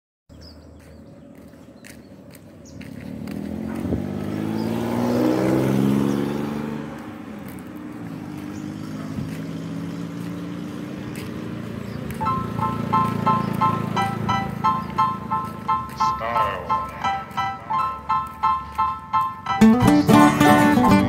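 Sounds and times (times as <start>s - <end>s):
traffic engine sound: 0.3s - 21.0s
vehicle passing by: 0.4s - 21.0s.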